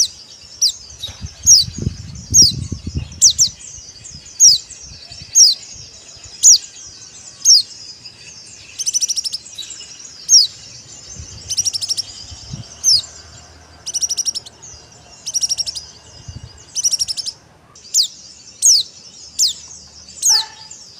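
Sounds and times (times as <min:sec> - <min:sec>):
bird whistles and trills: 0:00.0 - 0:13.2, 0:13.8 - 0:20.9.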